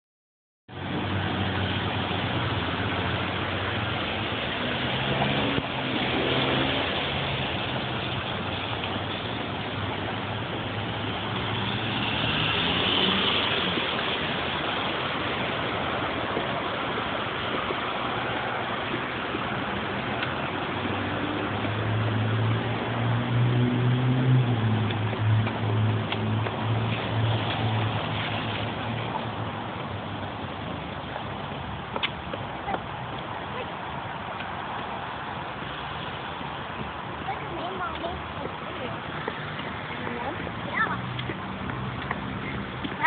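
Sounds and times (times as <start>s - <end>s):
car engines humming: 0.7s - 43.0s
tyres hissing on wet road: 0.7s - 43.0s.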